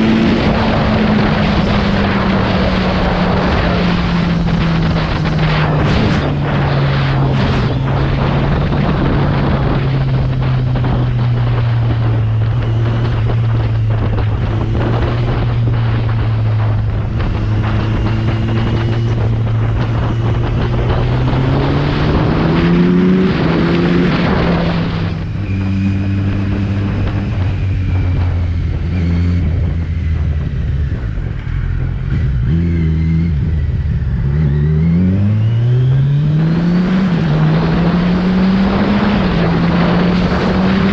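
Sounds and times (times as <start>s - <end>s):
motorcycle engine and exhaust: 0.0s - 40.9s
wind noise: 0.0s - 40.9s.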